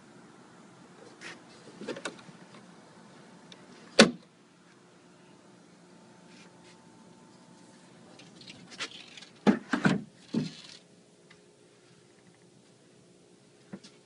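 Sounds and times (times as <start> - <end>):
faint low room hum: 0.0 - 14.0.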